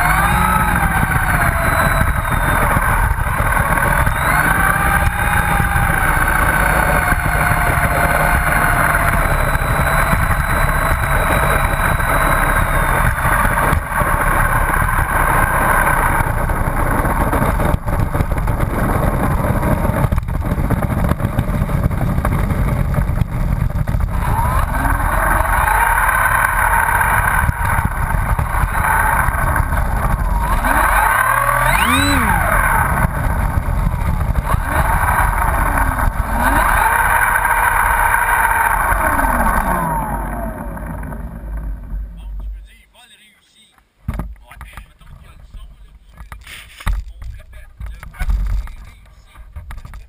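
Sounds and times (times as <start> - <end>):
model airplane motor and propeller: 0.0 - 42.1
steady low rumble: 0.0 - 42.8.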